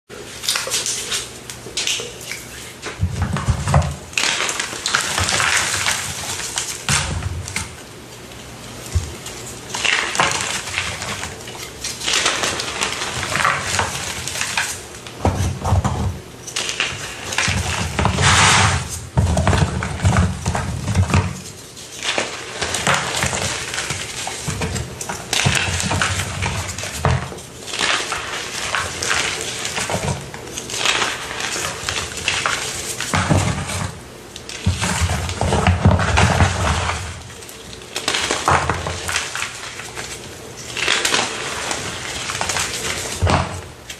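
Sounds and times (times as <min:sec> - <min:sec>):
brittle material crunching: 0:03.3 - 0:07.8, 0:08.8 - 0:43.9.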